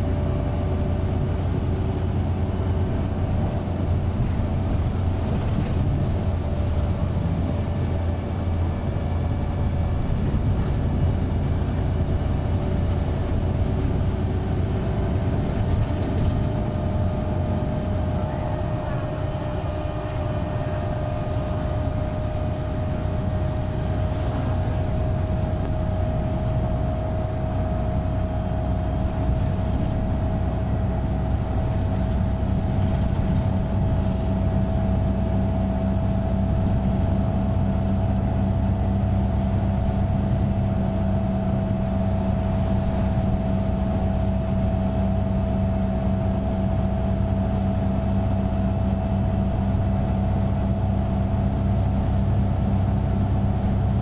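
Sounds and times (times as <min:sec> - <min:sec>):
bus diesel engine humming: 0:00.0 - 0:54.0
drivetrain whine: 0:00.0 - 0:54.0.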